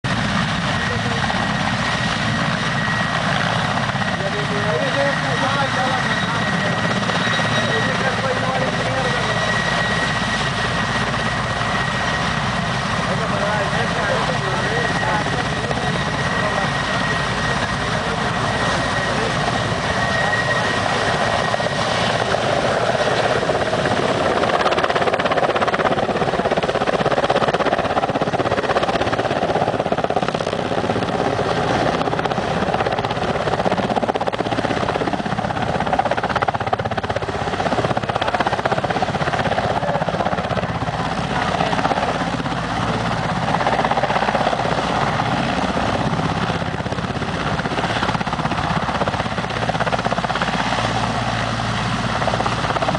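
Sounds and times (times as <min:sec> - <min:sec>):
helicopter rotor and turbine: 0:00.0 - 0:52.9.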